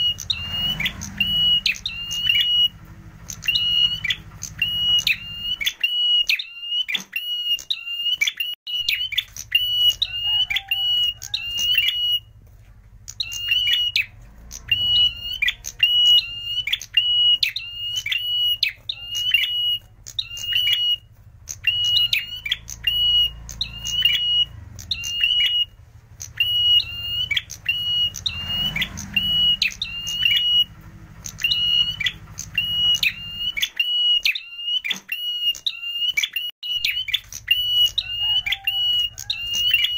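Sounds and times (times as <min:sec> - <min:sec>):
bird calling high ringing notes: 0:00.0 - 0:12.4, 0:13.1 - 0:39.9.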